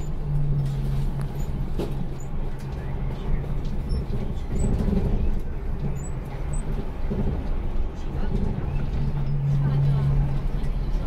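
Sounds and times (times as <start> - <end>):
bus engine hum: 0.0 - 11.0
road noise rumble: 0.0 - 11.0.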